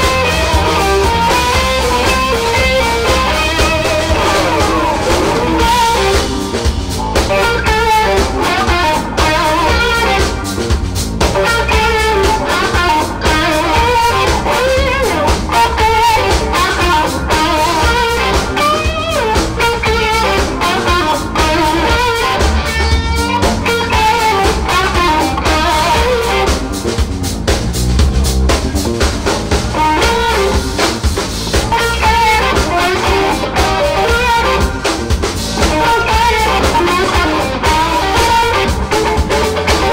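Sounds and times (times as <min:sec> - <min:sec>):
drum kit: 0:00.0 - 0:39.9
electric guitars playing lead: 0:00.0 - 0:39.9.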